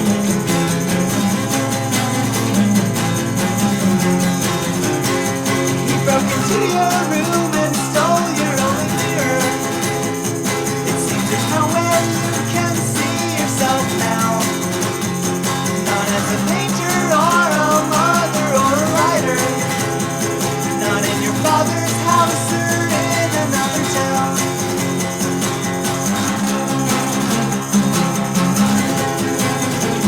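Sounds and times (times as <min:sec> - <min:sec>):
guitar song: 0:00.0 - 0:30.0.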